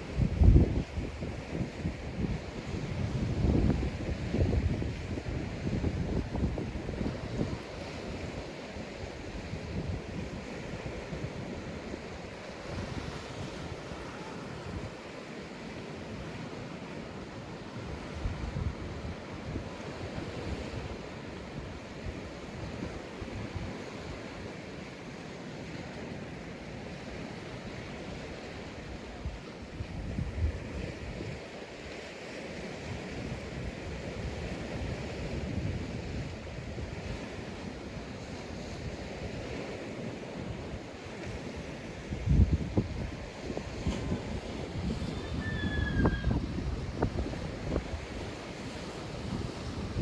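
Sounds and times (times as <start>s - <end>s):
wind gusting on microphone: 0.0s - 15.1s, 17.6s - 24.6s, 27.2s - 32.0s, 32.6s - 50.0s
waves breaking on beach: 0.0s - 50.0s.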